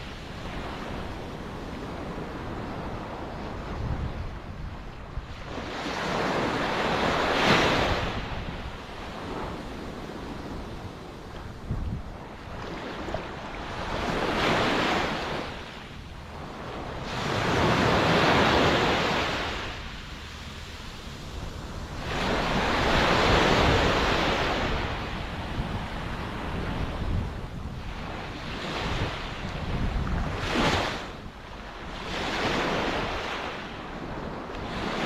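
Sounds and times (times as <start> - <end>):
ocean waves breaking: 5.2 - 33.8.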